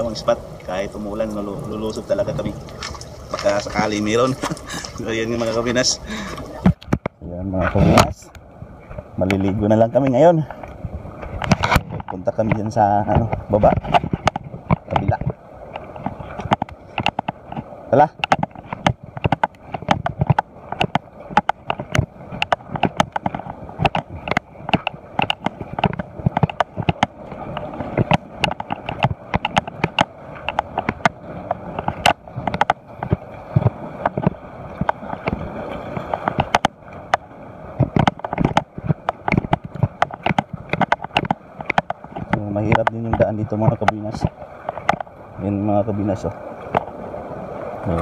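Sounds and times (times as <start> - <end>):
small waves washing: 0.0 - 48.0
footsteps on wet rocks: 1.1 - 8.3, 9.3 - 45.2.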